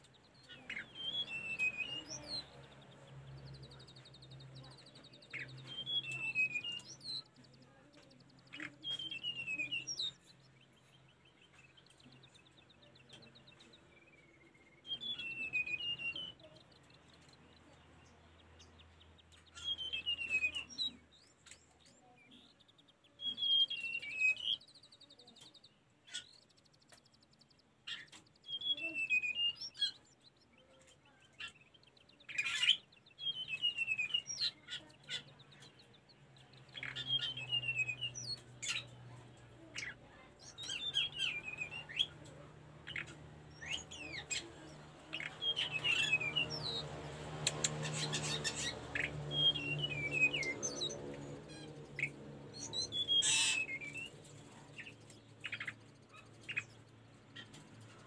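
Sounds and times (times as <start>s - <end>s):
bird singing warbled phrases: 0.0s - 58.0s.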